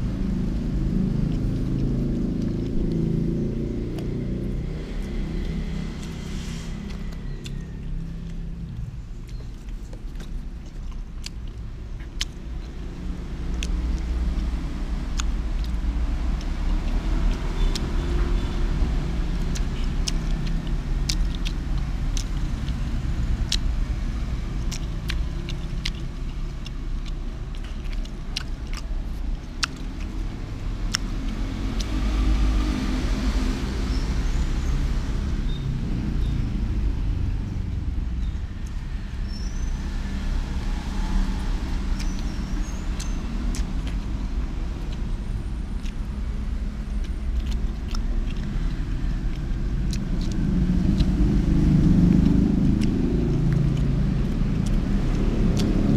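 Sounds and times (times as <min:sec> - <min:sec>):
steady low rumble: 0:00.0 - 0:55.9.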